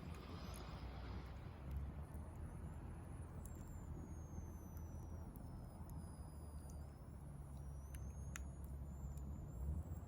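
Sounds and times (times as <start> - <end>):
fire low rumble: 0.0 - 10.0
wood fire crackling: 0.0 - 10.0.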